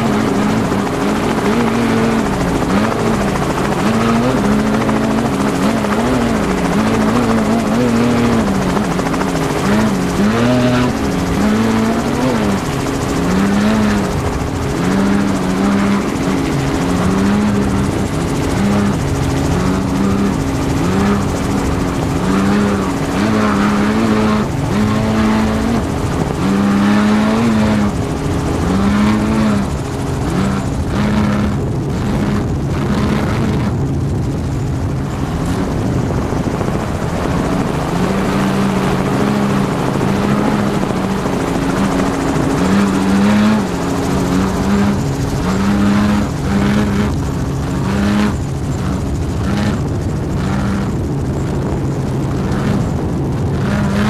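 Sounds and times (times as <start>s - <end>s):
helicopter running: 0.0s - 54.0s
truck engine revving: 0.0s - 54.0s.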